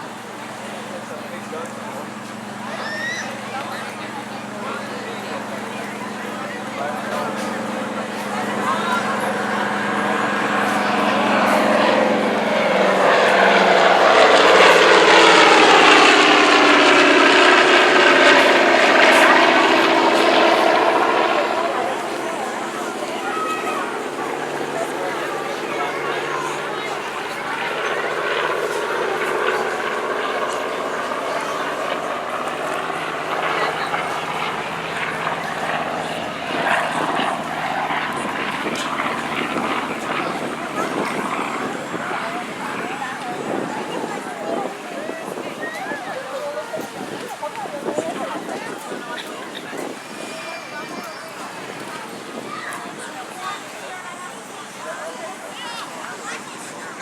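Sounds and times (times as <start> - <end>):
aircraft radial engine drone: 0.0 - 57.0.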